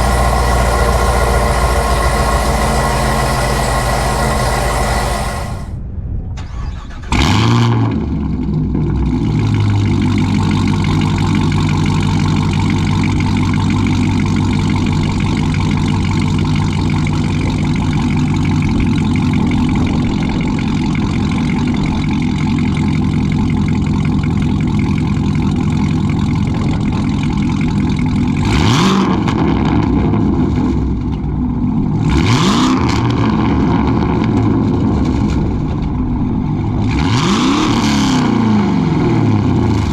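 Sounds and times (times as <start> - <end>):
car engine revving: 0.0 - 5.8, 6.5 - 39.9
car engine starting and idling: 0.0 - 39.9.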